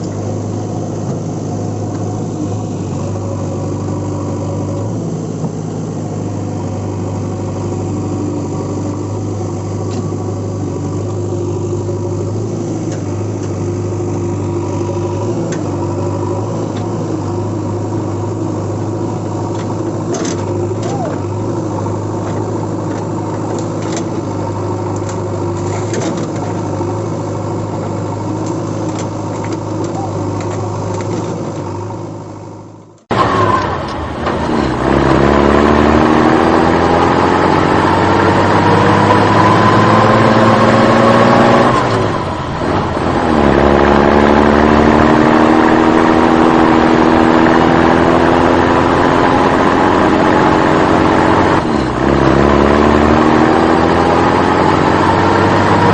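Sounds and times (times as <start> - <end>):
engine revving: 0.0 - 55.9
vehicle engine running: 0.0 - 55.9.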